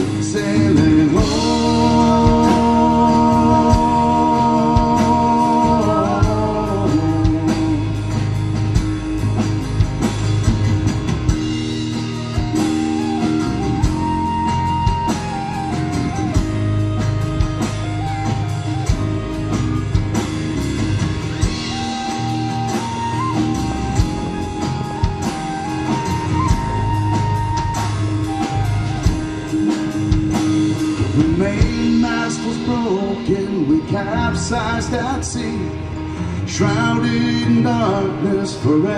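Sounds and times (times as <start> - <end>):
folk-rock band playing: 0.0 - 38.9.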